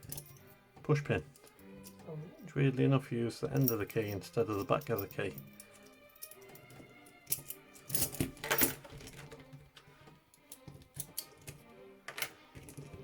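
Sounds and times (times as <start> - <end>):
handcuffs clicking and rattling: 0.0 - 0.6, 1.3 - 2.5, 3.4 - 13.0.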